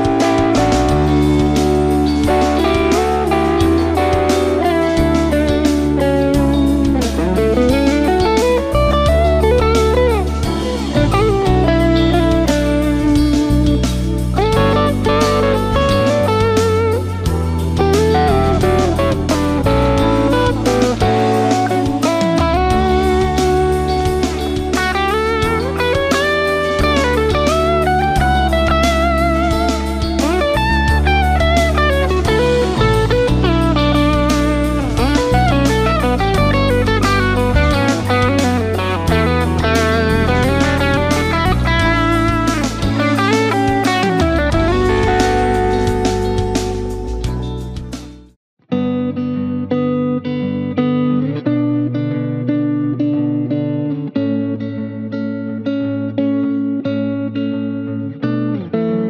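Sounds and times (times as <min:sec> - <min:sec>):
backing track: 0:00.0 - 0:48.4
electric guitar lead melody: 0:00.0 - 0:59.0.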